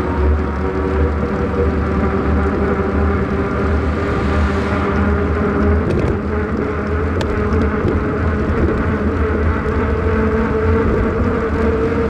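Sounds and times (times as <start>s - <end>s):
road noise rumble: 0.0s - 12.0s
thin whine: 0.0s - 12.0s
wind rush: 1.6s - 12.0s.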